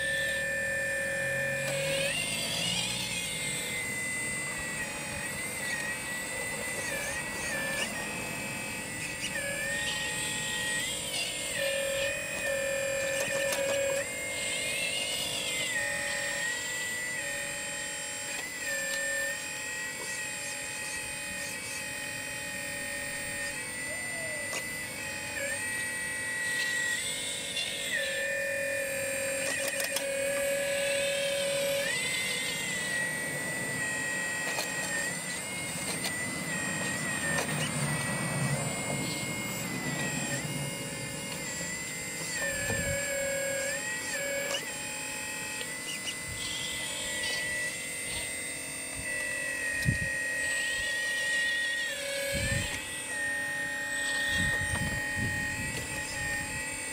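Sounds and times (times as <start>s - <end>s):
hydraulic pump whine: 0.0s - 56.9s.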